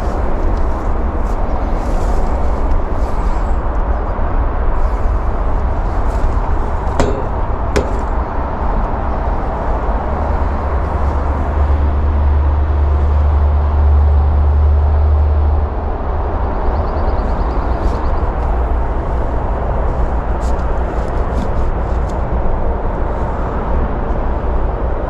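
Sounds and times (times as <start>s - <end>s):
heavy low rumble: 0.0s - 24.5s.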